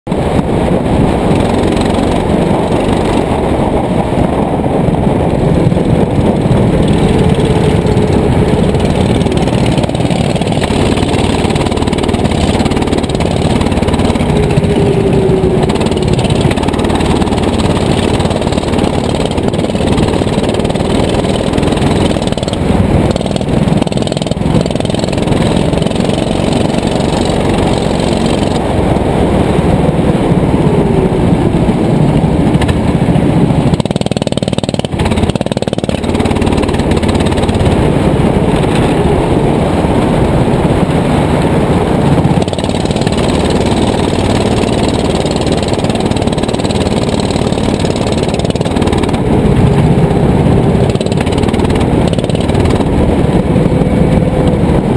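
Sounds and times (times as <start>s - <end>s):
go-kart engine revving: 0.1s - 54.9s.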